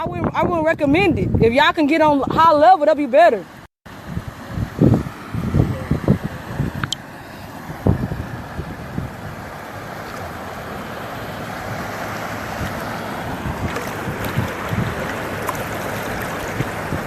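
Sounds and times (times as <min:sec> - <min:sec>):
wind buffeting microphone: 0:00.0 - 0:03.2, 0:03.9 - 0:17.0
floodwater rushing and sloshing: 0:03.3 - 0:17.0.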